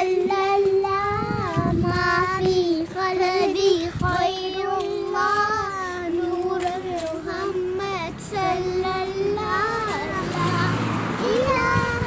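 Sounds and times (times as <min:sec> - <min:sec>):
girls singing a rhyme: 0:00.0 - 0:12.0.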